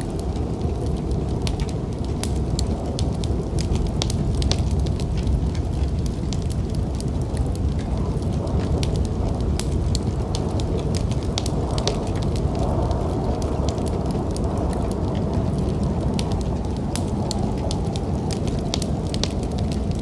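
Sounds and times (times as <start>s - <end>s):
low rumble of storm wind: 0.0s - 20.0s
wood fire crackling and popping: 0.0s - 20.0s.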